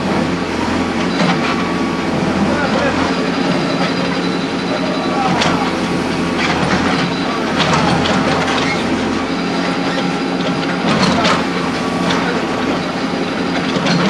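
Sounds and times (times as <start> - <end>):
machinery engine running: 0.0 - 14.0.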